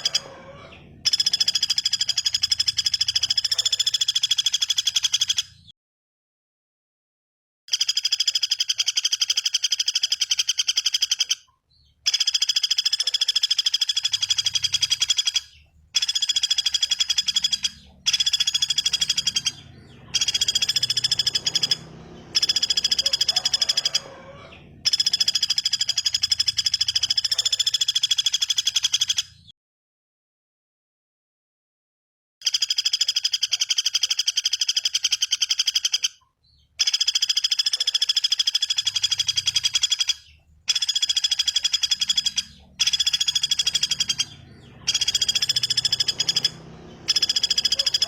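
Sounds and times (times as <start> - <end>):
bird buzzy rattling trill: 0.0 - 5.7, 7.7 - 29.5, 32.4 - 48.0.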